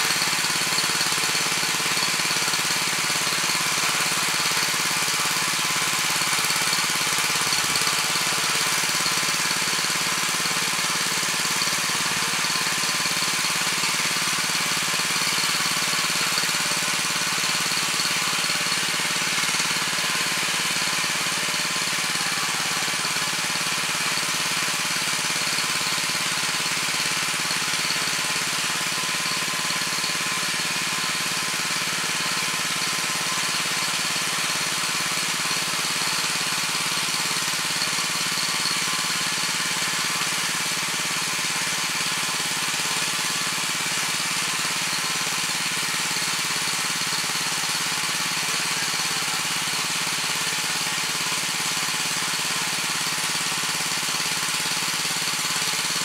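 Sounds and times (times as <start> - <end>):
tiller engine running: 0.0 - 56.0
tines churning soil: 0.0 - 56.0.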